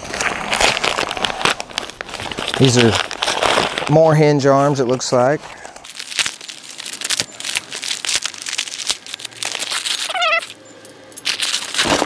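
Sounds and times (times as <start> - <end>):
packing paper crinkling and tearing: 0.0 - 10.6, 11.2 - 12.0.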